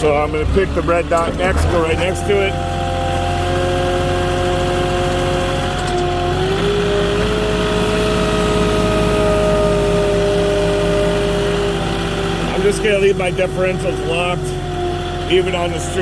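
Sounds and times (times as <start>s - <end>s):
forklift engine running: 0.0s - 16.0s.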